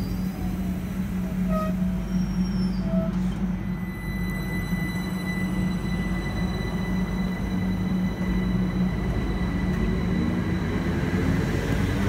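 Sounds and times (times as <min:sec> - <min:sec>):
constant high-pitched tone: 0:00.0 - 0:11.6
train rumble: 0:00.0 - 0:12.0.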